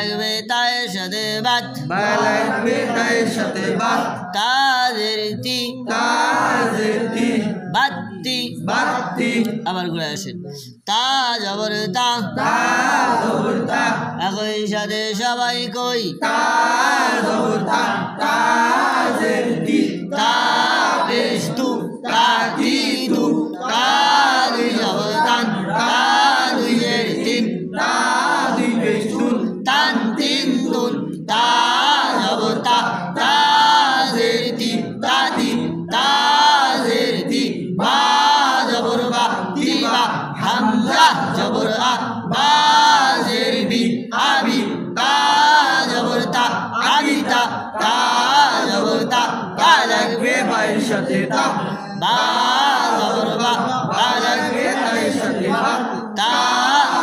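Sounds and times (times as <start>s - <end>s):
group of voices chanting: 1.6s - 4.4s, 5.8s - 9.7s, 12.2s - 14.2s, 16.2s - 57.0s.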